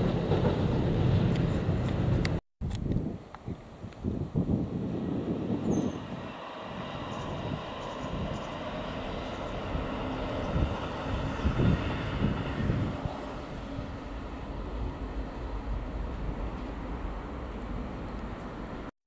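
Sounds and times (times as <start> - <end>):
distant electric train rumble: 0.0 - 2.4, 4.1 - 18.9
wind buffeting microphone: 0.0 - 18.9.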